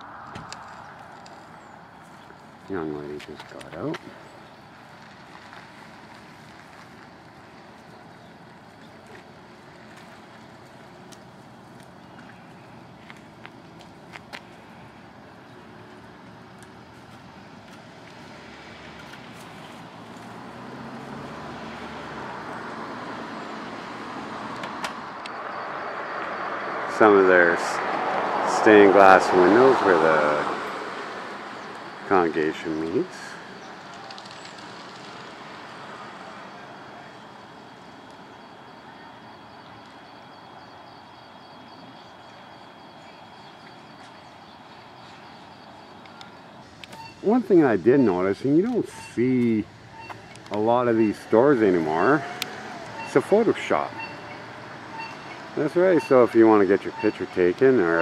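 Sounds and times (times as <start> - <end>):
outdoor hiss and rumble: 0.0 - 58.0
vehicle passing: 0.0 - 58.0.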